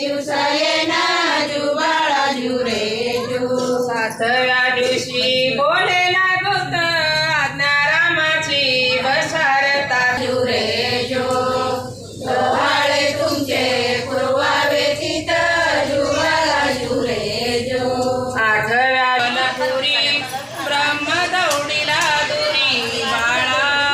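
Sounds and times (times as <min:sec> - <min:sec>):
women singing cradle song: 0:00.0 - 0:23.9.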